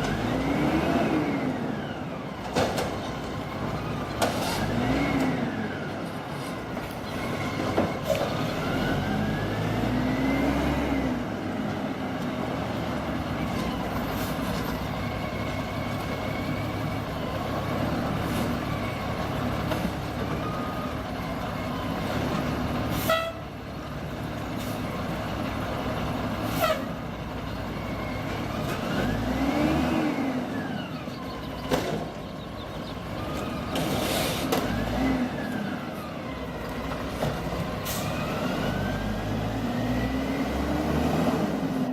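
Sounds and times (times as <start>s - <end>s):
garbage truck running: 0.0s - 41.9s.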